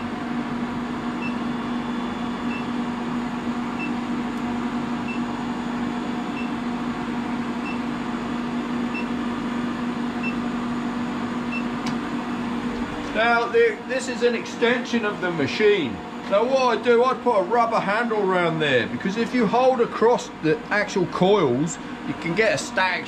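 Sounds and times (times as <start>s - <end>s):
induction heater hum: 0.0s - 23.0s.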